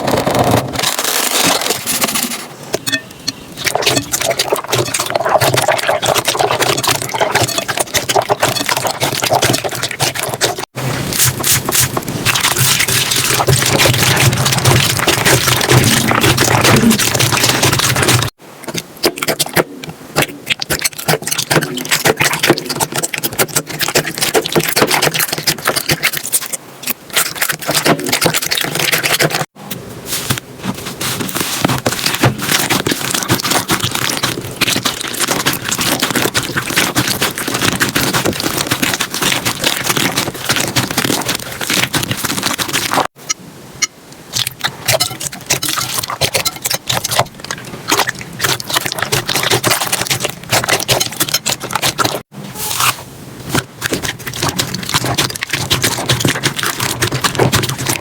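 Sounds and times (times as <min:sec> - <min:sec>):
slime squelching and popping: 0:02.8 - 0:29.6, 0:31.0 - 0:43.2, 0:44.3 - 0:58.0.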